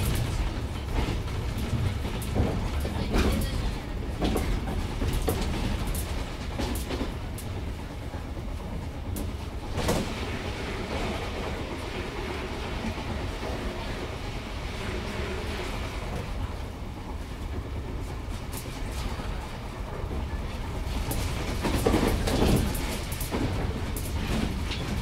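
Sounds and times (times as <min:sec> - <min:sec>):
train low rumble: 0:00.0 - 0:25.0
wheels clacking over rail joints: 0:00.0 - 0:25.0.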